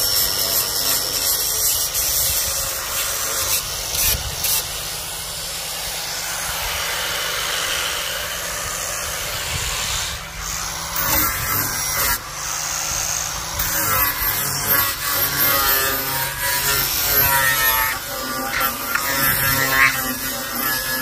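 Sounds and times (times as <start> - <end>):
angle grinder sanding wood: 0.0 - 21.0.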